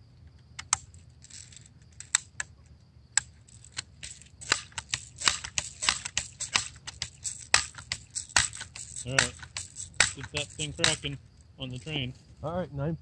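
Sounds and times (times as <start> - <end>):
bb gun clicks and rattles: 0.2 - 2.5, 3.2 - 11.9.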